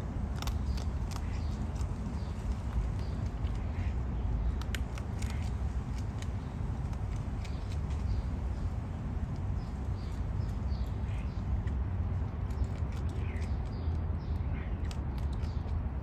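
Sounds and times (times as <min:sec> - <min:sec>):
raccoon crunching nuts: 0:00.0 - 0:14.1, 0:14.7 - 0:15.9.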